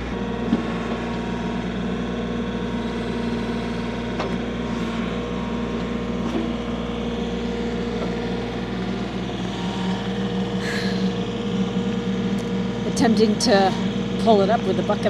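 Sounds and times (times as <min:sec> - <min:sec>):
machine engine running steadily: 0:00.0 - 0:15.0.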